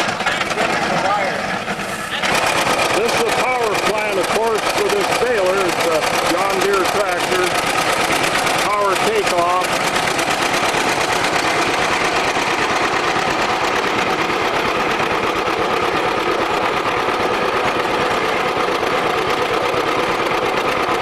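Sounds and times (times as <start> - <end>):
hay baler mechanical beat: 0.0 - 21.0
tractor engine running: 0.0 - 21.0.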